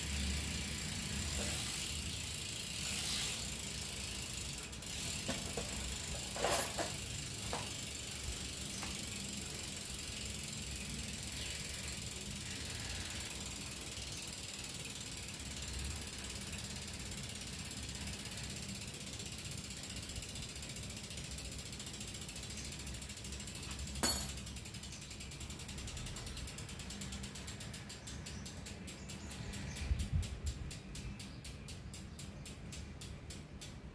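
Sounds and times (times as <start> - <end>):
bike freewheel ratchet clicking: 0.0 - 33.9.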